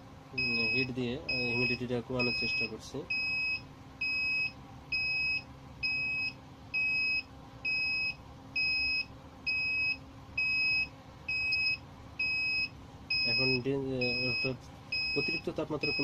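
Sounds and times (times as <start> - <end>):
alarm beeper beeping: 0.4 - 16.0.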